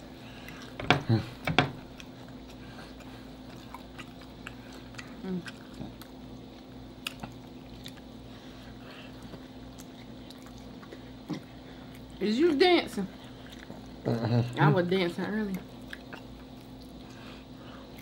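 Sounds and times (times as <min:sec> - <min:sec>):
steady low hum: 0:00.0 - 0:18.0
chewing and mouth sounds: 0:00.3 - 0:18.0.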